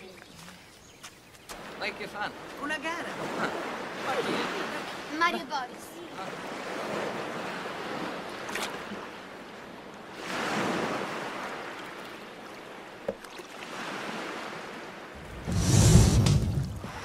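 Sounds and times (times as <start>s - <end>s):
sea waves washing in: 1.6s - 17.0s.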